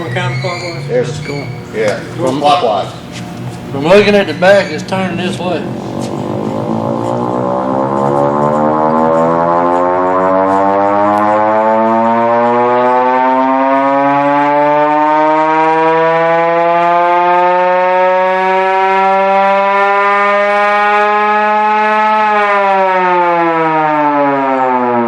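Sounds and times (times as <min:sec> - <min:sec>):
electric siren wailing: 0:00.0 - 0:01.8, 0:04.0 - 0:25.0.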